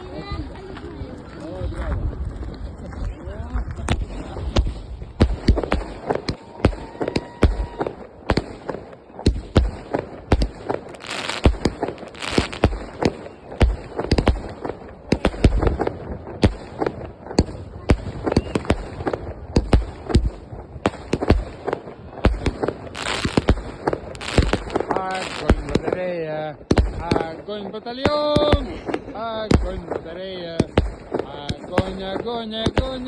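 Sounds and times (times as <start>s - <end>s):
firecrackers banging and popping: 0.0s - 33.0s
fireworks hissing: 3.9s - 33.0s.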